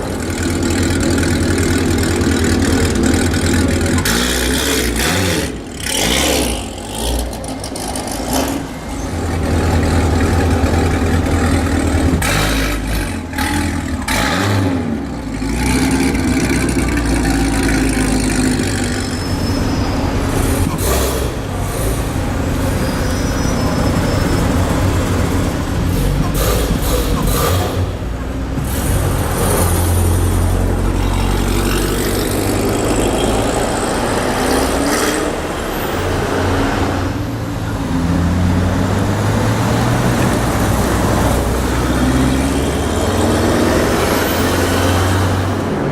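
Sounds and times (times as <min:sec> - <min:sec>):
loud car engine revving: 0:00.0 - 0:45.9.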